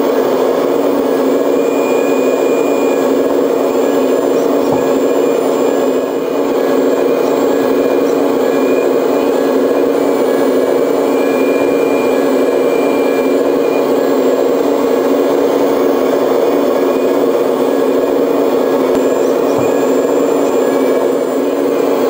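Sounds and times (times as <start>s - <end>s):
model excavator diesel engine sound: 0.0s - 22.0s.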